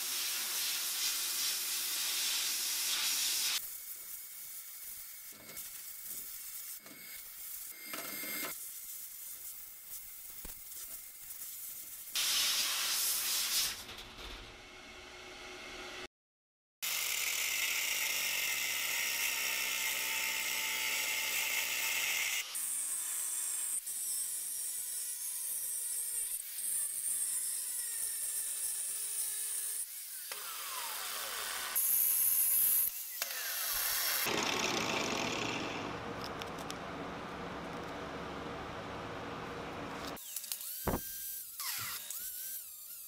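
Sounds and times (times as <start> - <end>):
angle grinder cutting metal: 0.2 - 13.8, 16.8 - 36.6, 40.0 - 43.0.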